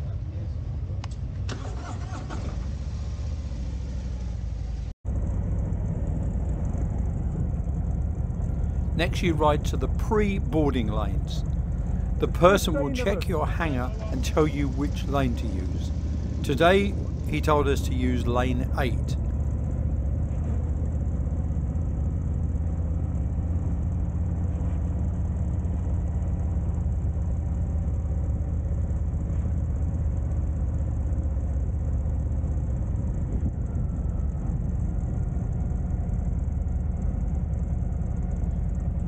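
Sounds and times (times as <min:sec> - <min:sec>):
motorcycle engine droning: 0:00.0 - 0:39.0.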